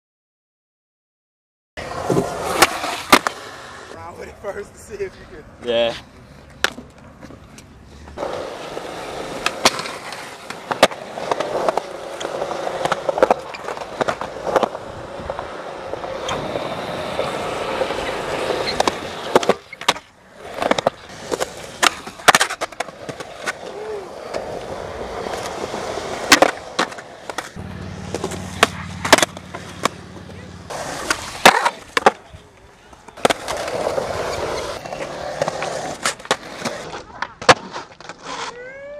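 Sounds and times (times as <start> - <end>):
skateboard wheels rolling on concrete: 1.8 - 38.9
skateboards clacking on ground: 1.8 - 38.9.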